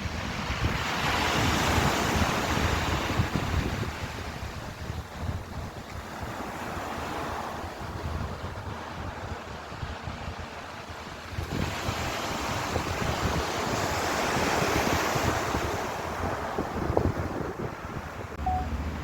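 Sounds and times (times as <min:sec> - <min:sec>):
ocean waves washing in: 0:00.0 - 0:19.0
wind on microphone: 0:00.0 - 0:19.0.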